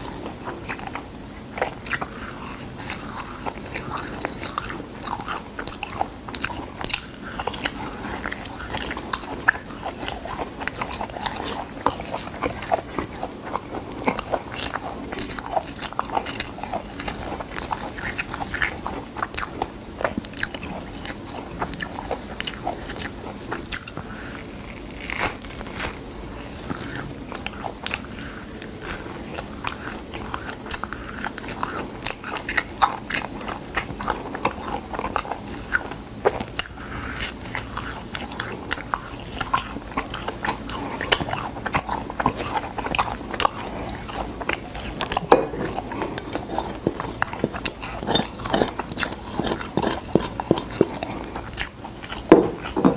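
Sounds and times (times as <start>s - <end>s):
chewing and crunching: 0.0s - 52.9s.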